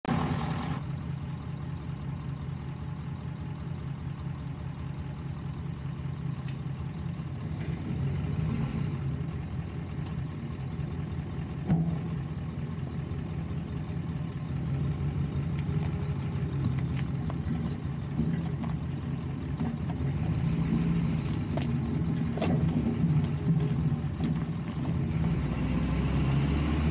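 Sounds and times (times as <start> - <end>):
truck engine running at low revs: 0.0 - 26.9.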